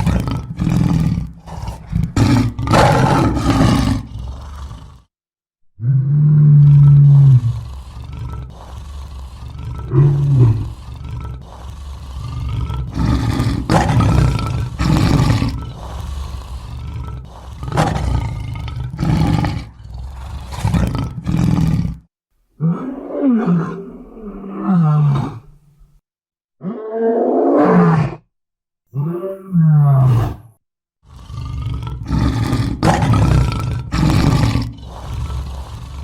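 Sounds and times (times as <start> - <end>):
lion roaring and growling: 0.0 - 5.1, 5.8 - 25.5, 26.6 - 28.3, 28.9 - 36.0.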